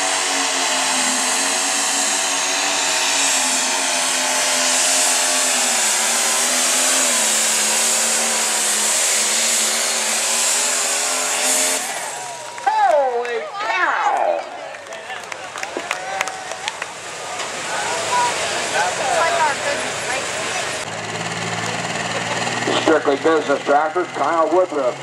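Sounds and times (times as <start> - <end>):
diesel engine at high revs under load: 0.0 - 12.6, 15.2 - 25.0.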